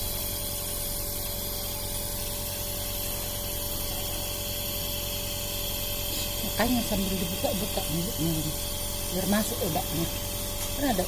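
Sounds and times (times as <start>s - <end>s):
nebulizer compressor humming: 0.0s - 11.0s.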